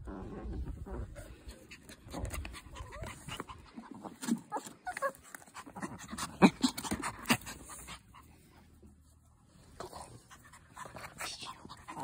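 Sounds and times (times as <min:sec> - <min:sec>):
dogs panting and snuffling: 0:00.0 - 0:12.0.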